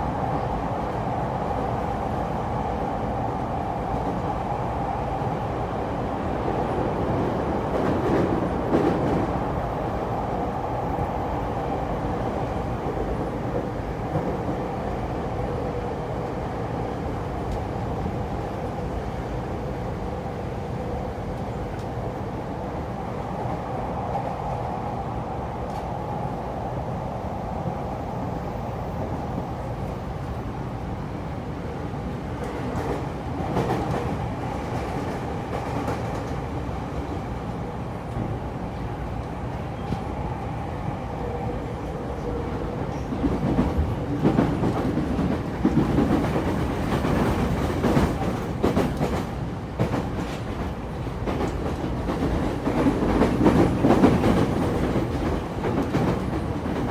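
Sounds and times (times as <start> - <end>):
electric train rumble: 0.0 - 56.9.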